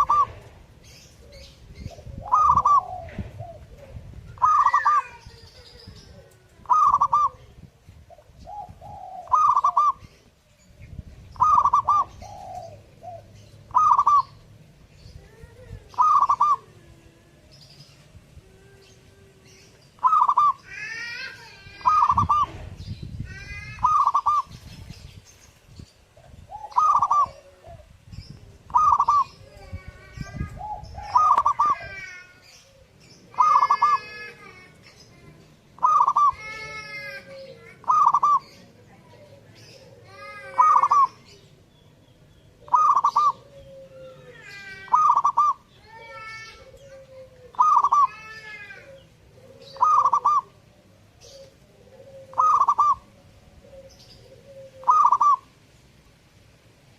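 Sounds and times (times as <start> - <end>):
dove cooing: 0.0 - 14.6, 15.2 - 25.1, 26.2 - 41.7, 42.4 - 55.6
faint birds chirping: 0.0 - 56.9.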